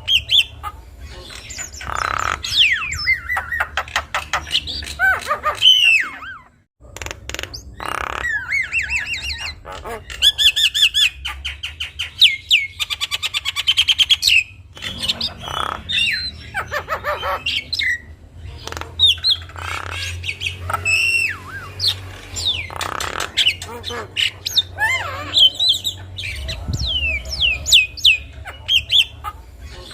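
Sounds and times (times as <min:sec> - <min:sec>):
harsh rasping bird squawks: 0:00.0 - 0:06.5, 0:07.2 - 0:26.4.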